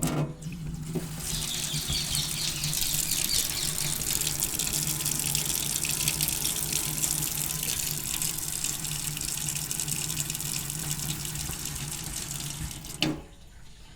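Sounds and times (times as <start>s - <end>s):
tap running into sink: 0.0s - 13.4s.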